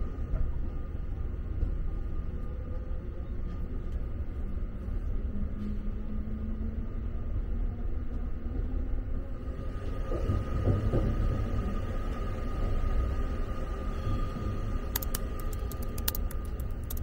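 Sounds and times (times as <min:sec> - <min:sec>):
low train running rumble: 0:00.0 - 0:17.0.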